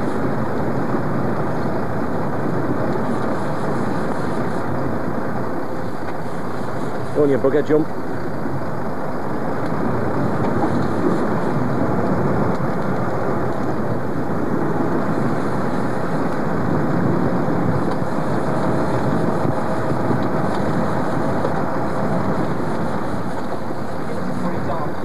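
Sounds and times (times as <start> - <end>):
boat engine running: 0.0 - 25.0
faint steady whine: 0.0 - 25.0
sea noise: 0.0 - 25.0
wind noise: 0.0 - 25.0.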